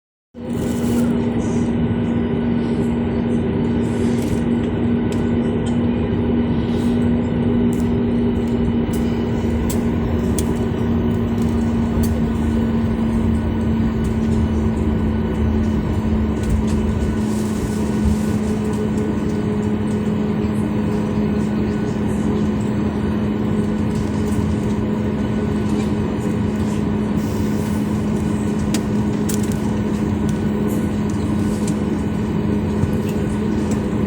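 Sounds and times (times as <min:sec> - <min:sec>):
vehicle interior drone: 0:00.4 - 0:34.0.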